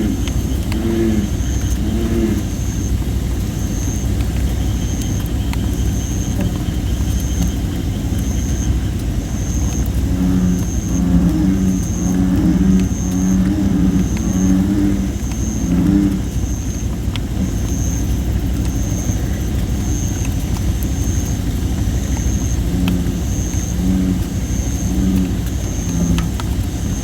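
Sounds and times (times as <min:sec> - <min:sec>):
bullfrogs calling: 0:00.0 - 0:27.0
wood fire crackles: 0:00.0 - 0:27.0.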